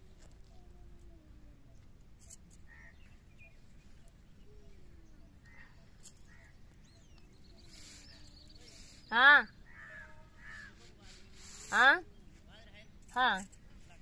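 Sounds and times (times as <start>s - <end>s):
distant bird chirps: 1.7s - 13.2s.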